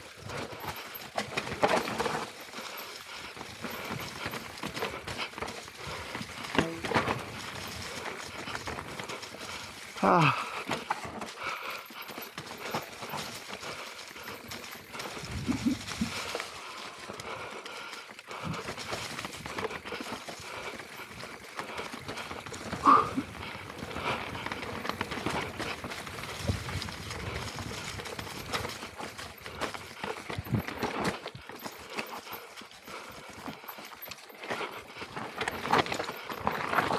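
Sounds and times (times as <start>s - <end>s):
bike rattling and clattering: 0.0s - 36.9s
tyres crunching over stones: 0.2s - 36.9s.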